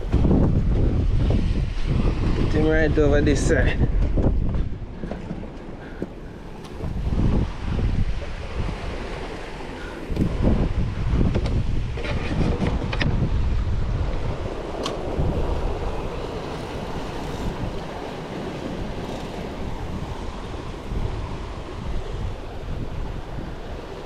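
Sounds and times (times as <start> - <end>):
surf washing against rocks: 0.0 - 24.0
wind buffeting microphone: 0.0 - 24.0.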